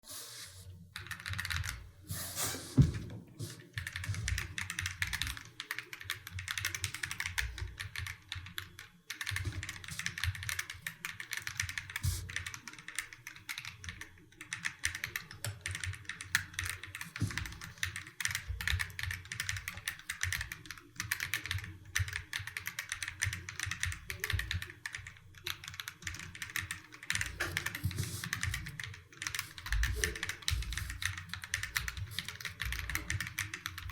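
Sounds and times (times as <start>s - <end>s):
mechanical keyboard typing: 1.0s - 1.8s, 3.5s - 33.9s.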